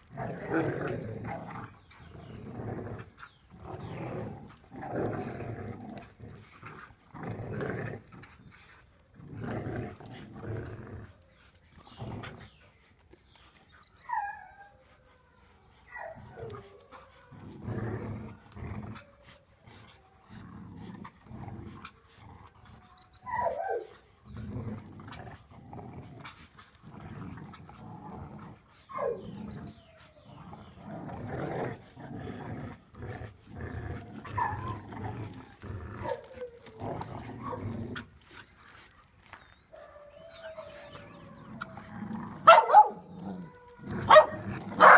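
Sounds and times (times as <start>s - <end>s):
dogs growling: 0.0s - 44.9s.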